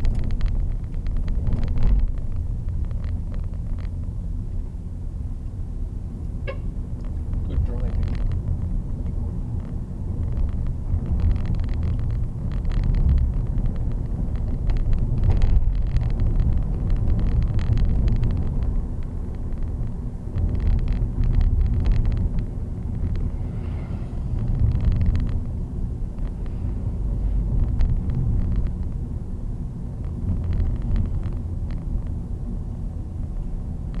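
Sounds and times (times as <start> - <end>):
vehicle rumble: 0.0 - 34.0.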